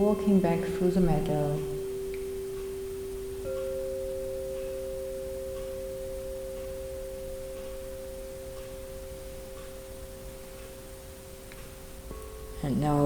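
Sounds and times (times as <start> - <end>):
meditation music pure tones: 0.0 - 13.0.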